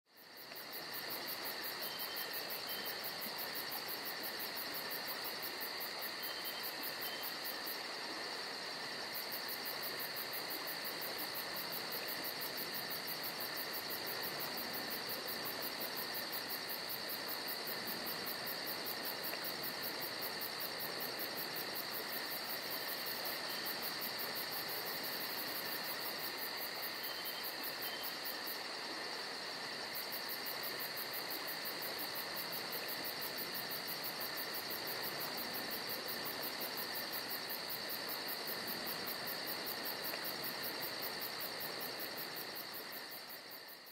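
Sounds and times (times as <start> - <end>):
insect chorus trilling: 0.1 - 43.9.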